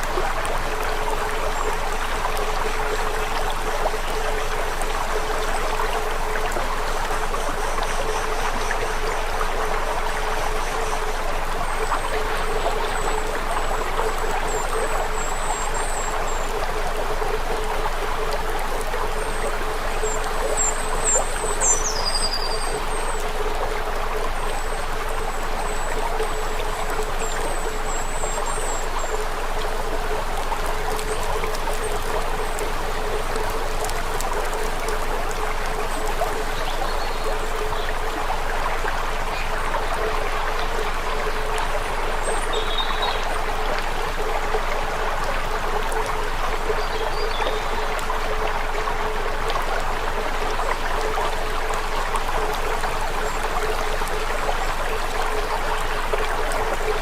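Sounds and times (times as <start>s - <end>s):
rushing water-like noise: 0.0s - 57.0s.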